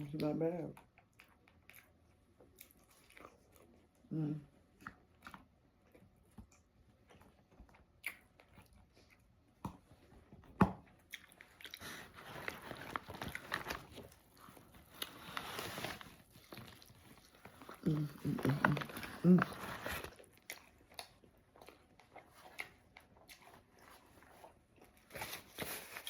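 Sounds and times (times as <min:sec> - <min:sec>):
close chewing and mouth sounds: 0:00.0 - 0:26.0.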